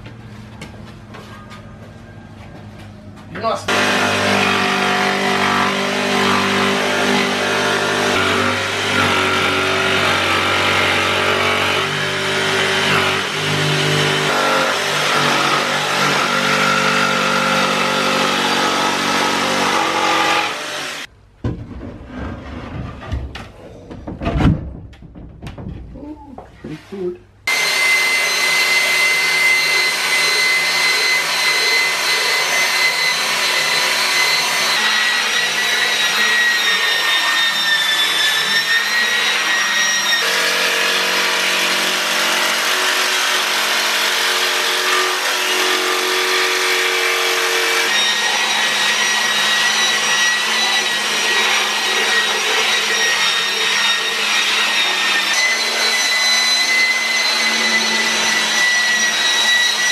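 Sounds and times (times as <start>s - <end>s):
belt sander running: 3.7s - 21.1s, 27.5s - 59.9s
jigsaw cutting: 3.7s - 21.1s, 27.5s - 59.9s.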